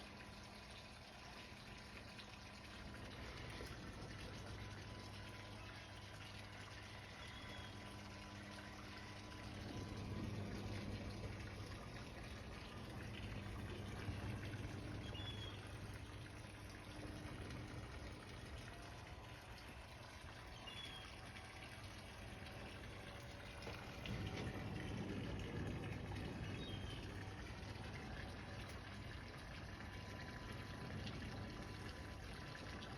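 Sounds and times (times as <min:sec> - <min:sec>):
low hum: 0:00.0 - 0:32.9
rushing water: 0:00.0 - 0:32.9.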